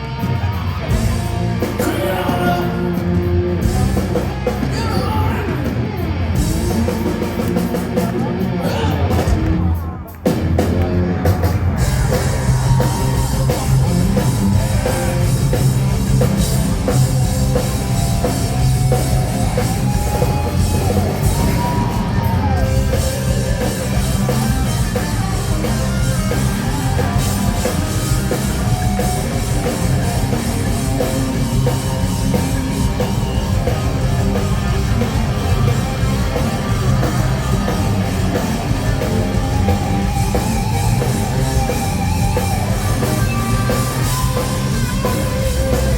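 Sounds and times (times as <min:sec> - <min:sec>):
live hard rock band: 0:00.0 - 0:45.9.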